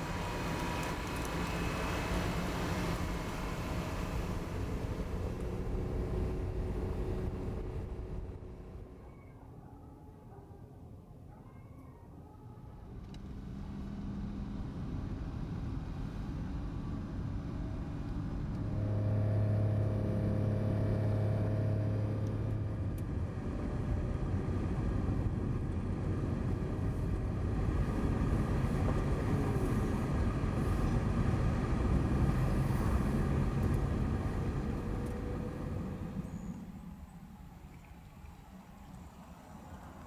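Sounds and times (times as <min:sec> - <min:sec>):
road noise: 0:00.0 - 0:09.0, 0:13.2 - 0:40.0
vehicle engine hum: 0:00.0 - 0:09.0, 0:12.6 - 0:40.0.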